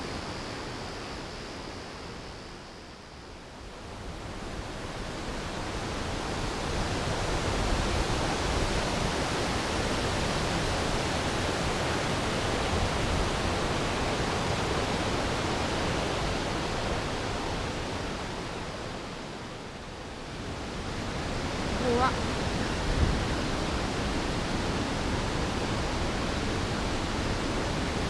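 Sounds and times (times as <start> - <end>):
large waterfall rushing: 3.9 - 28.0.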